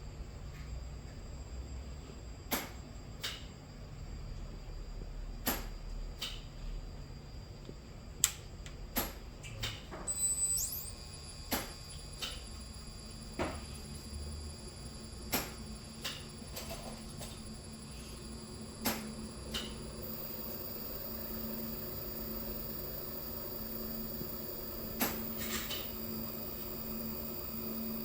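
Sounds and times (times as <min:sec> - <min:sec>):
electrical hum and whine: 0:00.0 - 0:28.0.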